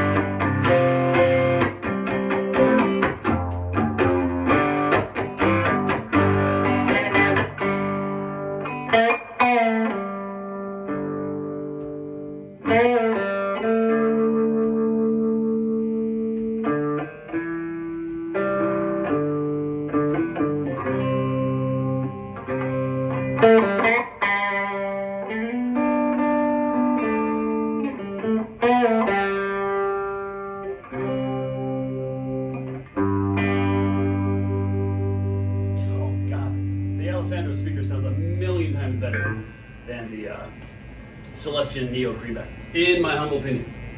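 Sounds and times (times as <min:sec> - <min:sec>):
electric guitar chords ringing: 0:00.0 - 0:43.9.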